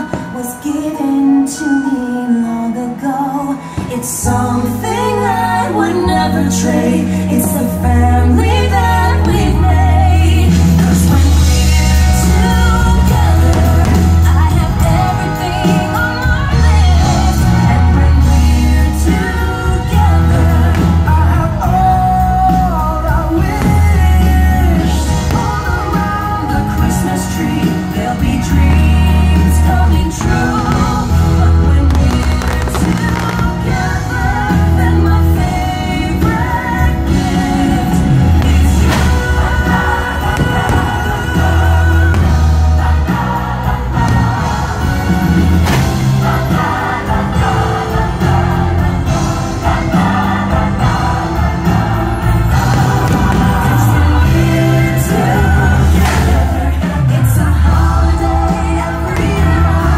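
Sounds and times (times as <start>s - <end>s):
song with singing over heavy bass: 0.0s - 59.9s.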